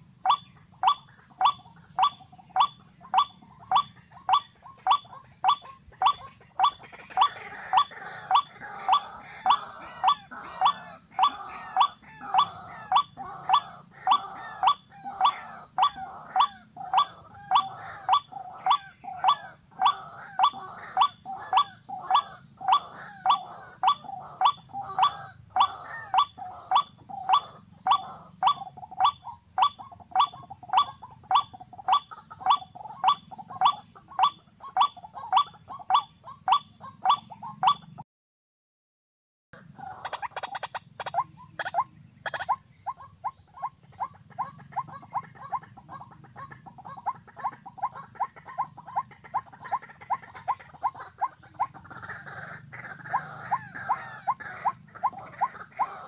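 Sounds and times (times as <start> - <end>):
repeated bird call: 0.0 - 38.0, 39.6 - 56.0.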